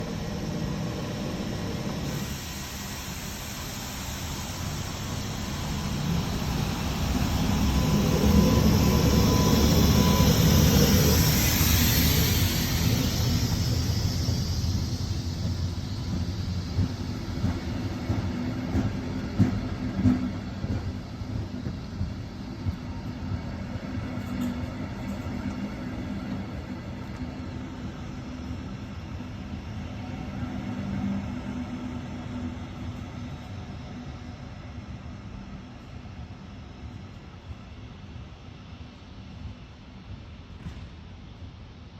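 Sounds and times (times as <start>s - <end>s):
train rumble and hiss: 0.0s - 41.9s.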